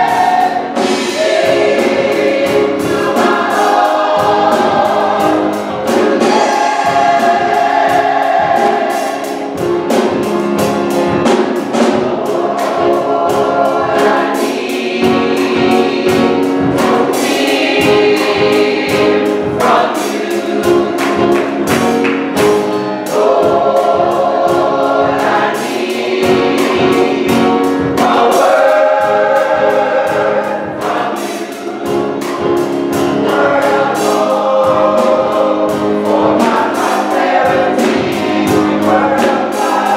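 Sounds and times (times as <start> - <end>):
gospel choir singing in harmony: 0.0 - 39.9
steady beat: 0.0 - 39.9.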